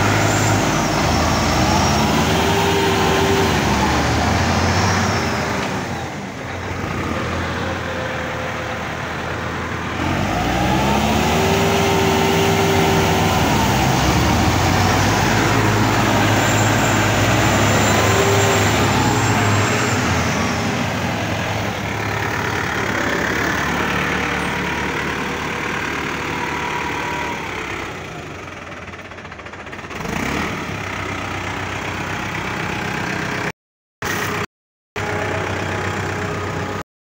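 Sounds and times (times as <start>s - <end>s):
tractor diesel engine under load: 0.0s - 36.9s.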